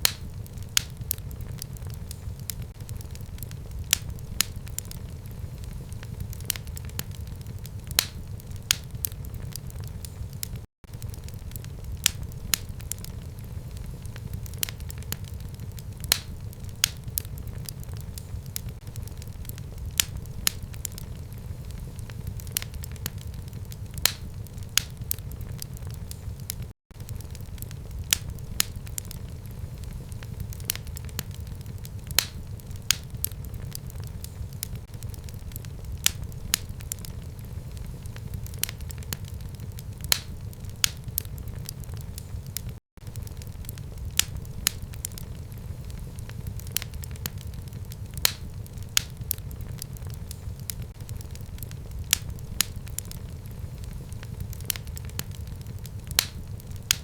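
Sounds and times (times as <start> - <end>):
fire crackling and popping: 0.0 - 57.0
fire low rumble: 0.0 - 57.0.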